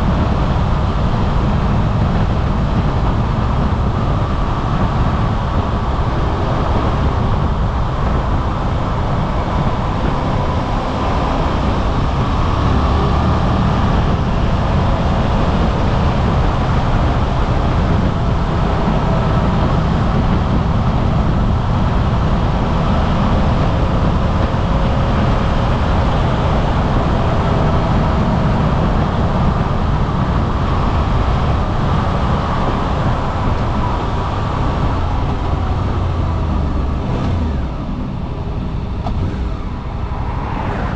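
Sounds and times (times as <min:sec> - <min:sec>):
road rush: 0:00.0 - 0:40.9
wind noise: 0:00.0 - 0:40.9.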